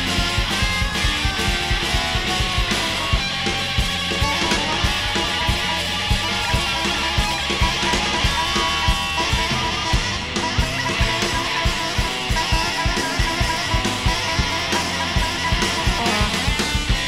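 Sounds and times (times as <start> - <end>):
bass guitar: 0.0 - 17.0
distorted electric guitar: 0.0 - 17.0
driving drums: 0.0 - 17.0.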